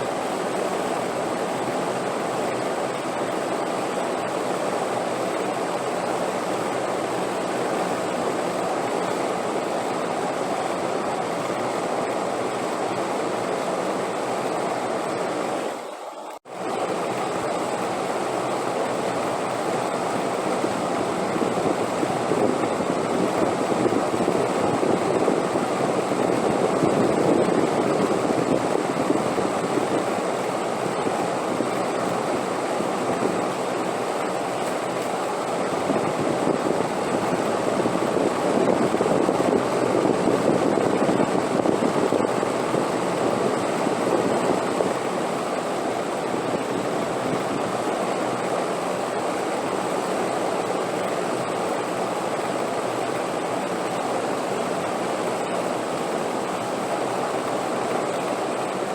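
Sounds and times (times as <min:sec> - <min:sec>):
steady wind: 0:00.0 - 0:58.9.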